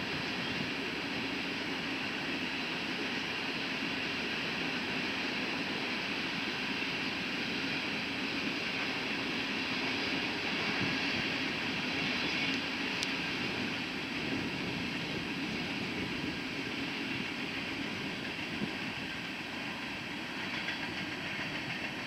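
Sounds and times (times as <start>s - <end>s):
steel wheels rolling on rail: 0.0s - 22.0s.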